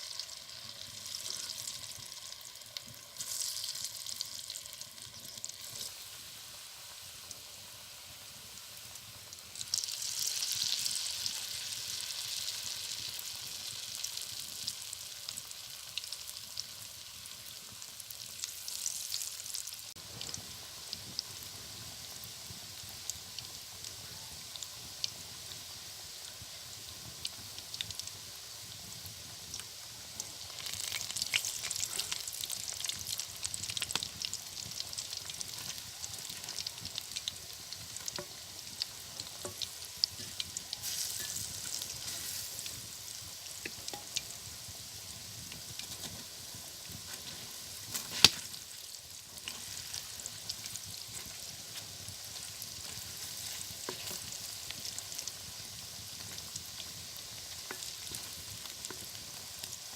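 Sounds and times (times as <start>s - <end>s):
food deep-frying in oil: 0.0s - 59.9s.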